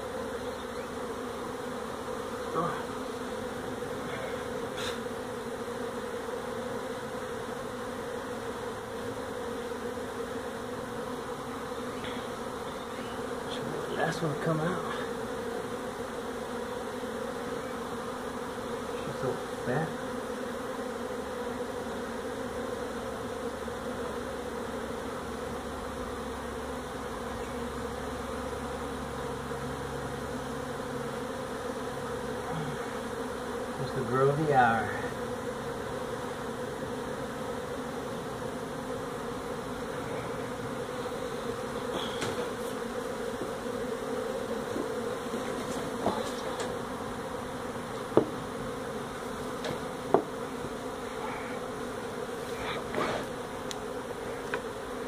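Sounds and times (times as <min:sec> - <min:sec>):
honey bees buzzing: 0:00.0 - 0:55.0.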